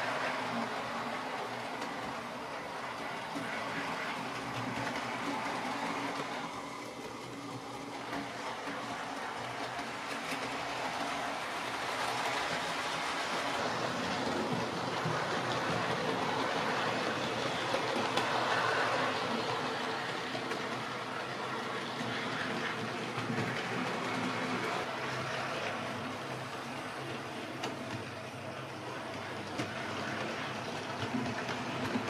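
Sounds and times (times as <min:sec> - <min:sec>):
model train motor humming: 0:00.0 - 0:32.0.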